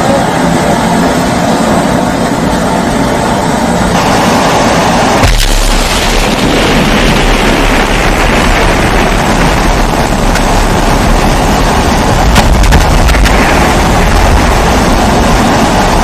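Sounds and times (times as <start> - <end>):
winter wind: 0.0 - 16.0.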